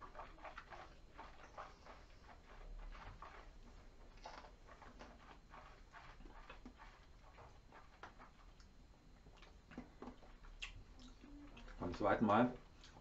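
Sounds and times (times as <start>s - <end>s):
mouths sipping and chewing: 0.0s - 13.0s.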